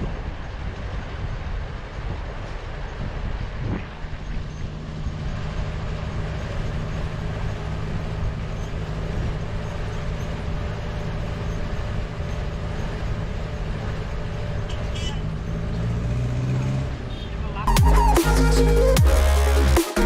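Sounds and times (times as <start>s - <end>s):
vehicle engine hum and road noise: 0.0s - 20.0s.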